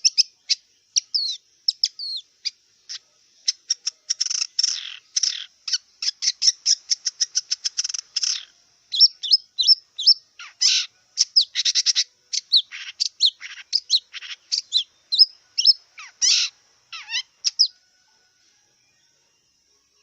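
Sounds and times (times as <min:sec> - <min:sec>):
shrike singing whistled chirps: 0:00.0 - 0:20.0.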